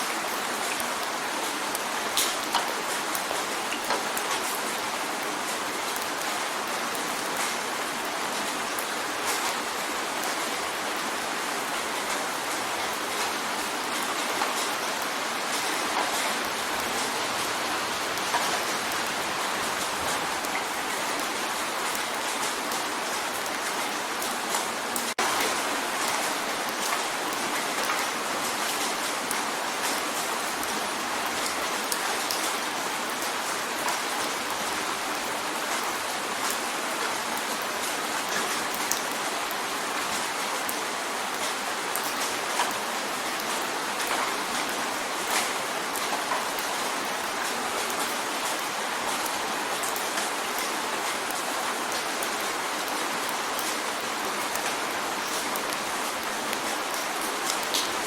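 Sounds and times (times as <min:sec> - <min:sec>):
rain drumming on a window: 0:00.0 - 0:58.0.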